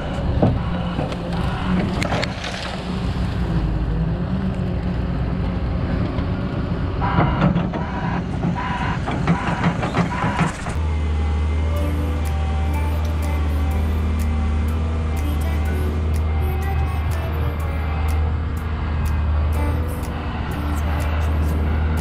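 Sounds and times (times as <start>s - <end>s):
diesel machinery running: 0.0s - 22.0s.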